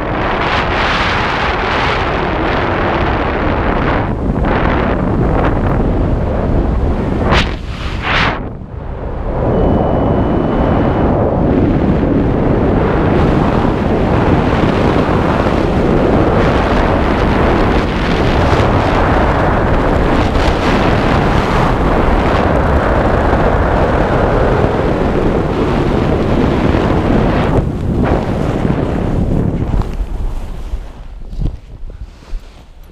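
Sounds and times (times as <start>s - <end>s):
wind rushing over microphone: 0.0s - 32.9s.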